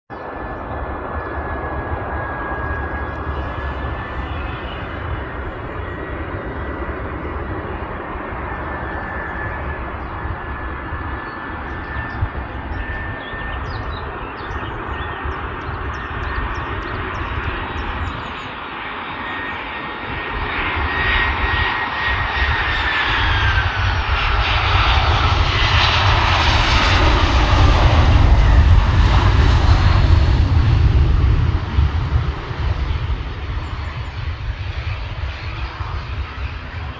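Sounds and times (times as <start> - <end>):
jet engines whining and roaring: 0.1 - 36.9.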